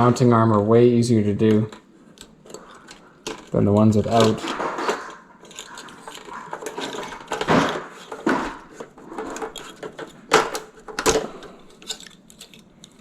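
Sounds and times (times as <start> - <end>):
small parts clicking and knocking: 1.4 - 13.0.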